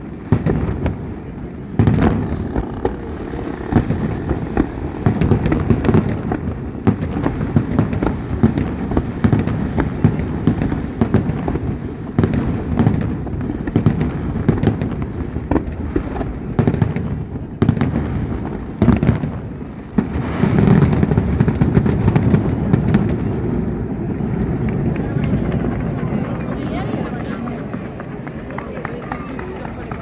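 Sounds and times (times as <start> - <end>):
fireworks cracks and bangs: 0.0 - 30.0
rumble of explosions: 0.0 - 30.0.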